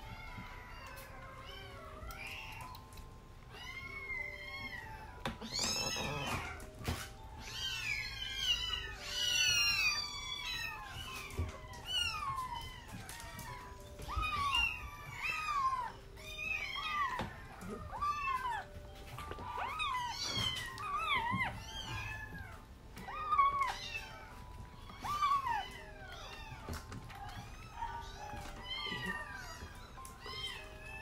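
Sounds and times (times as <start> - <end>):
faint background music: 0.0 - 31.0
kittens mewing: 3.5 - 31.0.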